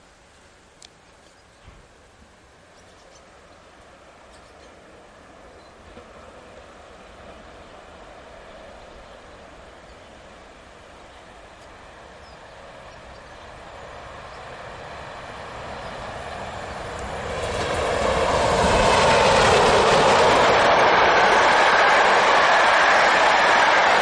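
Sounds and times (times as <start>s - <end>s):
electric train passing: 2.0s - 24.0s.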